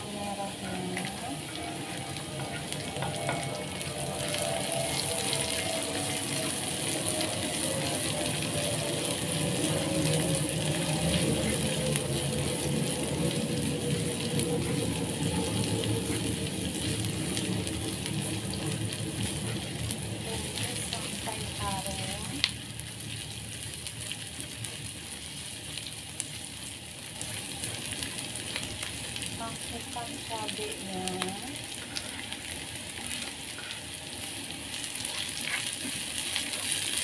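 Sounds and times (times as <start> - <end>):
garlic sizzling in oil: 0.0 - 37.0.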